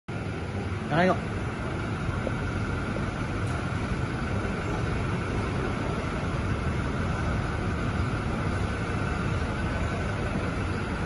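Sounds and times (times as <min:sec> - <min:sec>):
car engine idling: 0:00.1 - 0:11.0.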